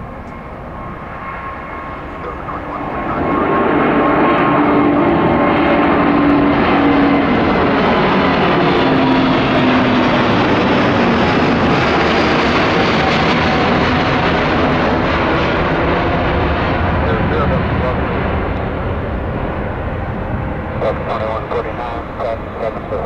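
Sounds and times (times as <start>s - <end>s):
jet aircraft roar: 0.0s - 23.0s.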